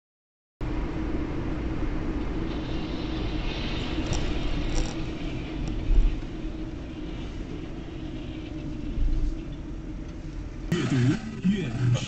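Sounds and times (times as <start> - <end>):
car road and engine noise: 0.6 - 12.0.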